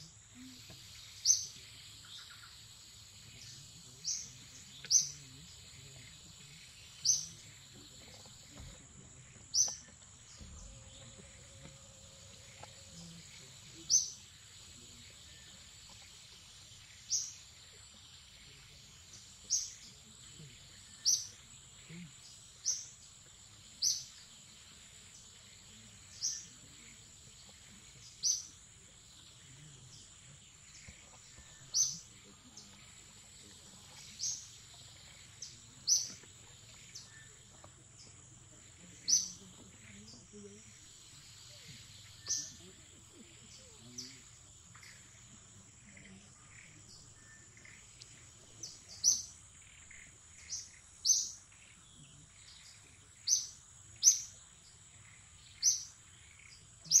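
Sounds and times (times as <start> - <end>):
bird chirping: 0.0 - 57.0
insect drone: 0.0 - 57.0.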